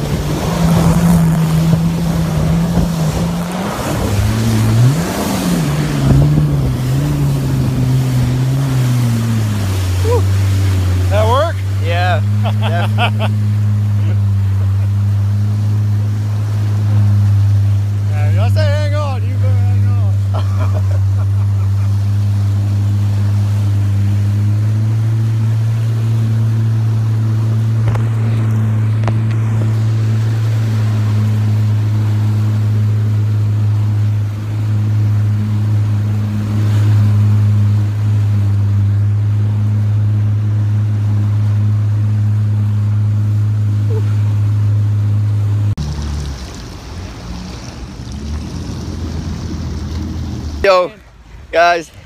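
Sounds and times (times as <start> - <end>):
jet ski engine drone: 0.0 - 52.0
wind and water rush: 0.0 - 52.0.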